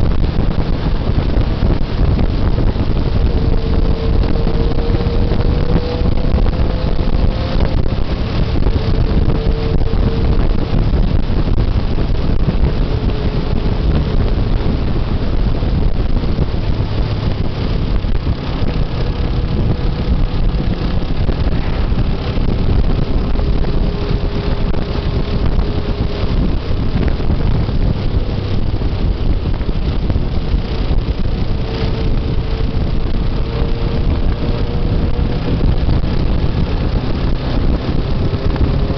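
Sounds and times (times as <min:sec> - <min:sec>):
motorcycle engine drone: 0:00.0 - 0:38.9
wind noise on microphone: 0:00.0 - 0:38.9.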